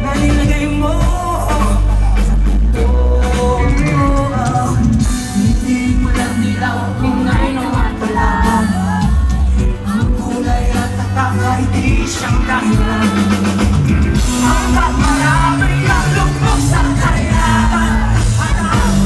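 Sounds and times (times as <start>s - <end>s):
live rock band: 0.0s - 19.0s
person singing: 0.0s - 19.0s.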